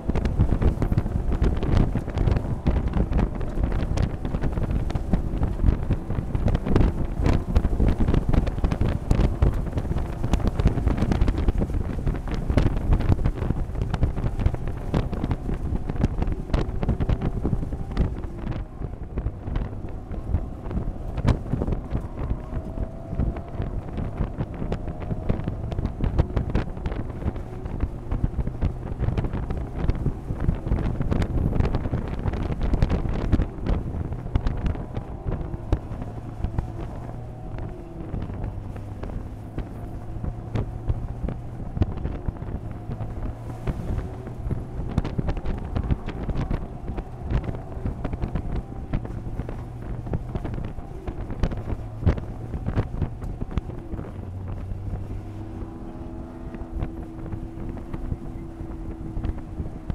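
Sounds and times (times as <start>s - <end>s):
race car engine from cockpit: 0.0s - 59.9s
wind buffeting microphone: 0.0s - 59.9s.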